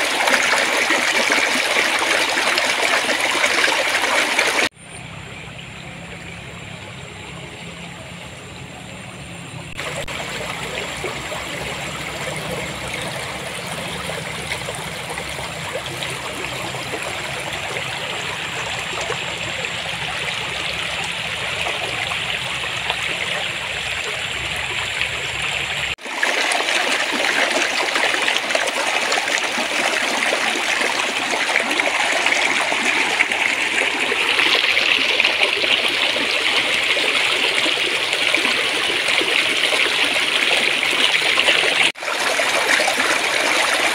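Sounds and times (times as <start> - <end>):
stream water babbling: 0.0 - 43.9.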